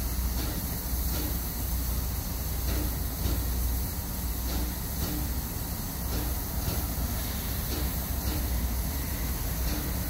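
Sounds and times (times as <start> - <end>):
steam locomotive exhaust chuffs: 0.0 - 10.0.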